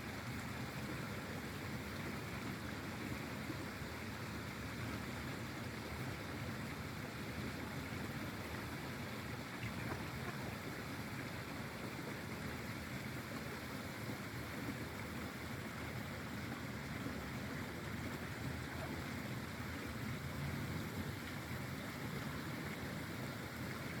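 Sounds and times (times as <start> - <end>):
pond water rushing: 0.0 - 24.0.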